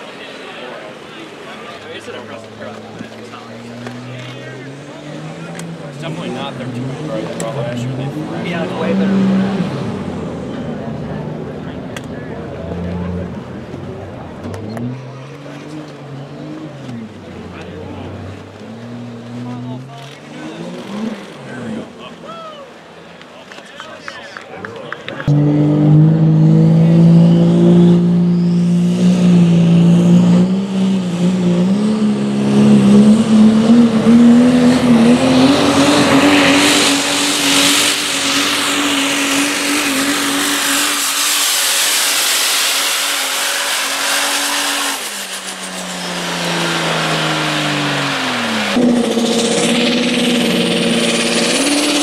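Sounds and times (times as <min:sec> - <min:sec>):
diesel truck engine revving: 0:00.8 - 0:23.1, 0:25.0 - 0:52.0.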